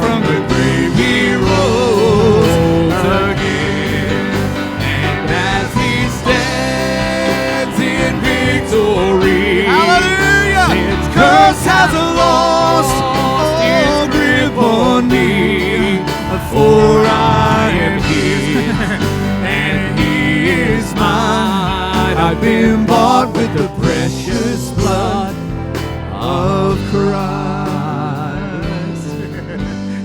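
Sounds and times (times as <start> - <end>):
live band playing: 0.0 - 30.0
person singing with vibrato: 0.0 - 30.0.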